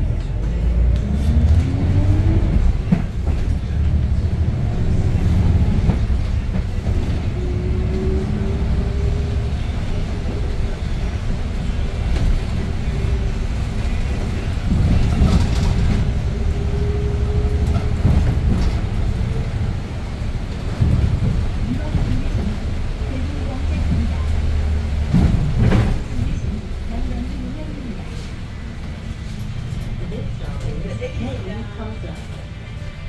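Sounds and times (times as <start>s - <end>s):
bus engine low rumble: 0.0s - 33.0s.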